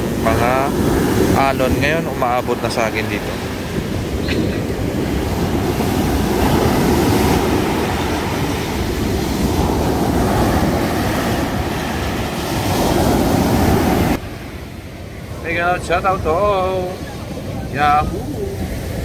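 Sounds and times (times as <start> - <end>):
sea surf breaking on beach: 0.0 - 19.0.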